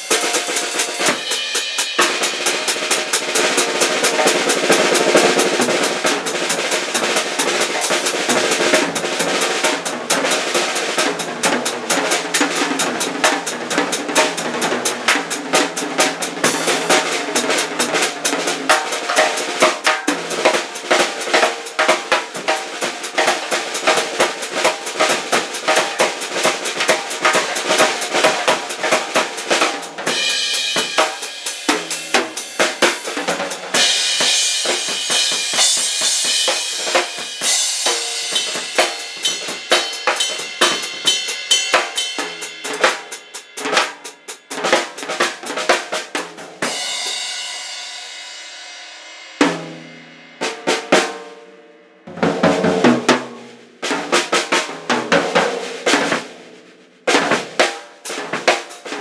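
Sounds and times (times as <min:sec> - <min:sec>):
drum kit played with sticks: 0:00.0 - 0:59.0.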